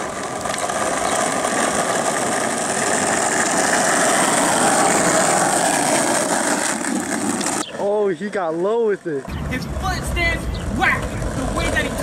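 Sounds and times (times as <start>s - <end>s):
skateboard wheels rolling on asphalt: 0.0s - 12.0s.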